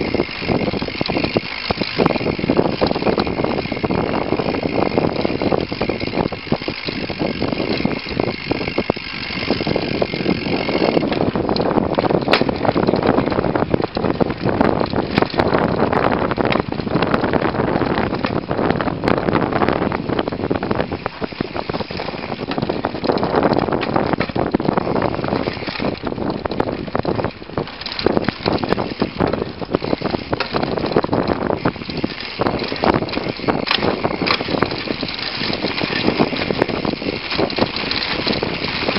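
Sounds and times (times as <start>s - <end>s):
bike rattling over bumps: 0.0s - 38.9s
bike tyres on dirt trail: 0.0s - 38.9s.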